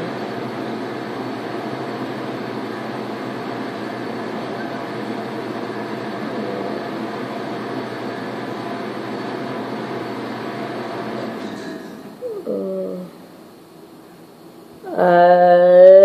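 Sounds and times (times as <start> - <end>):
machine hum with hiss: 0.0 - 16.0.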